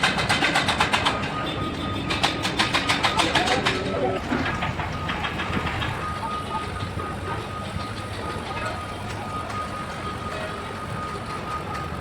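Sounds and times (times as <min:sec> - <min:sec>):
heavy diesel machinery rumbling: 0:00.0 - 0:12.0.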